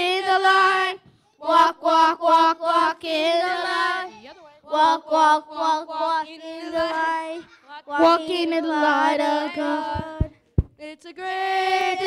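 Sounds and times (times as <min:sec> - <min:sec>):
group singing in unison: 0:00.0 - 0:10.4, 0:11.0 - 0:12.0.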